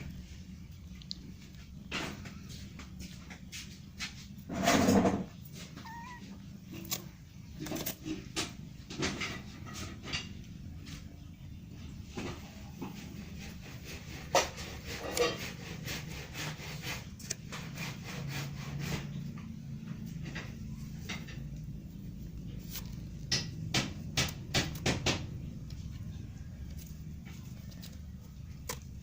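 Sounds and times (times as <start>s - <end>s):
kitten chewing and crunching: 0.0s - 29.0s.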